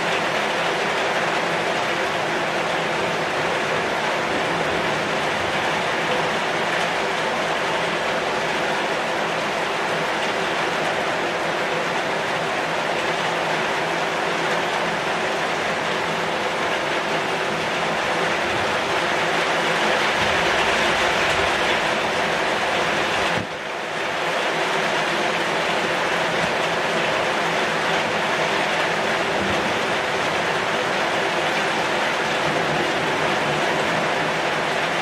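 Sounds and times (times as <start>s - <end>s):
heavy rain on a metal roof: 0.0s - 35.0s
rain on leaves: 0.0s - 35.0s.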